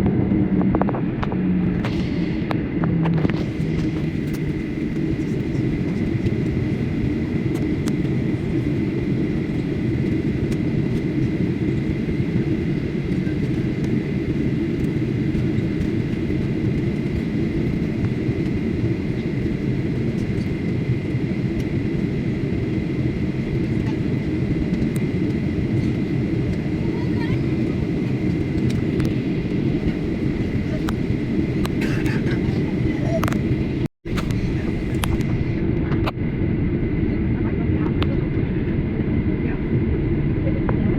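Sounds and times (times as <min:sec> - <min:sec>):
airliner cabin engine drone: 0:00.0 - 0:40.9
thin steady whine: 0:00.0 - 0:40.9.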